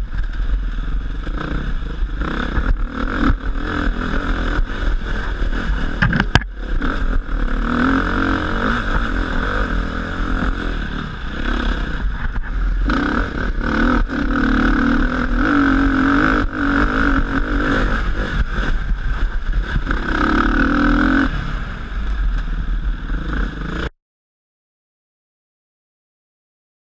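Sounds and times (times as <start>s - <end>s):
wind rumble on microphone: 0.0s - 23.7s
dirt bike engine revving: 0.0s - 23.9s.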